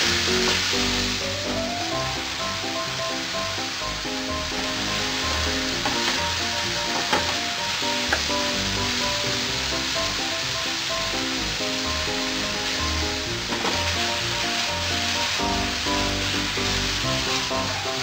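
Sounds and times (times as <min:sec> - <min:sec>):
food sizzling in frying pan: 0:00.0 - 0:18.0
light background melody: 0:00.0 - 0:18.0.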